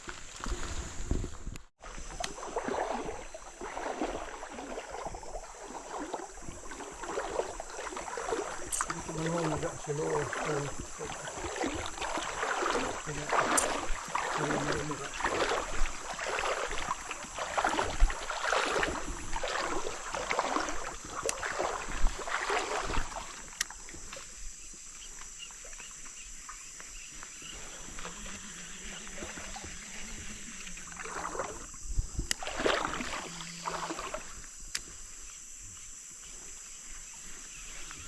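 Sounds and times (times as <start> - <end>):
water splashing and sloshing: 0.0 - 38.0.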